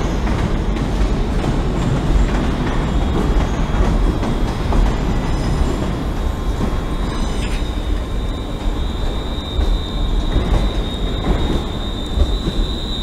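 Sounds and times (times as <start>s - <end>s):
electric train wheels rumbling: 0.0s - 13.0s.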